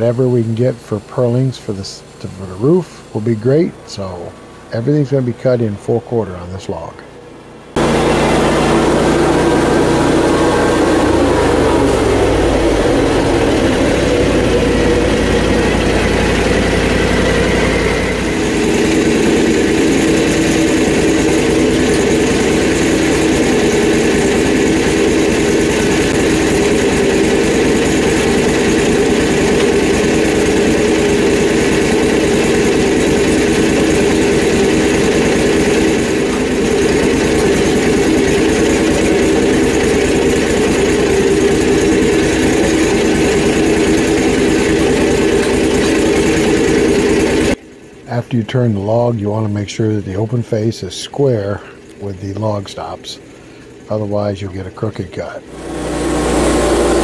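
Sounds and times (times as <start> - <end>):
gasoline engine running: 0.0 - 57.0.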